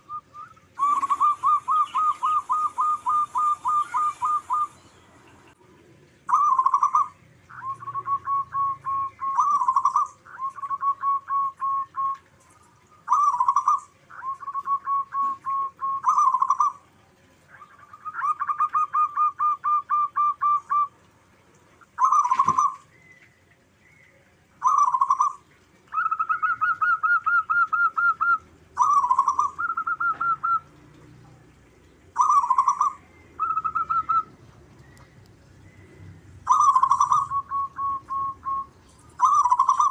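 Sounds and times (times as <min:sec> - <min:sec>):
doves cooing: 0:00.0 - 0:23.2, 0:24.6 - 0:31.3, 0:32.1 - 0:39.9.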